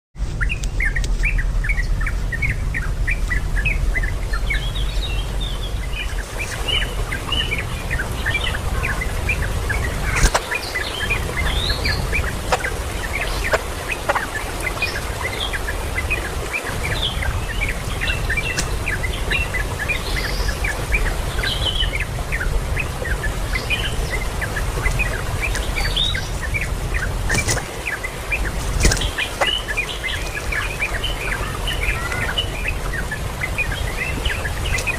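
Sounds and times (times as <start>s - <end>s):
low rumble: 0.2s - 34.8s
small birds chirping: 0.2s - 34.9s.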